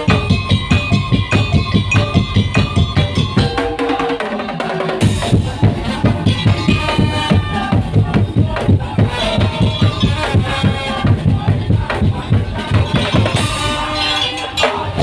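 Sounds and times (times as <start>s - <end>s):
drums and slit drums beating: 0.0s - 15.0s
held melody line: 0.0s - 15.0s.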